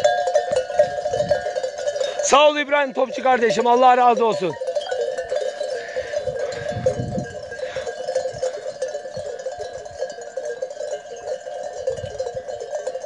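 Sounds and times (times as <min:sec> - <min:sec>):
sheep bells clanking: 0:00.0 - 0:13.0.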